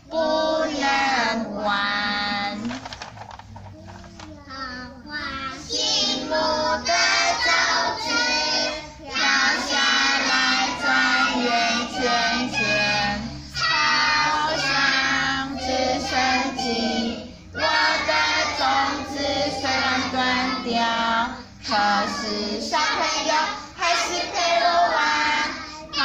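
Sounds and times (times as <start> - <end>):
children singing together: 0.0 - 2.6, 4.6 - 26.0.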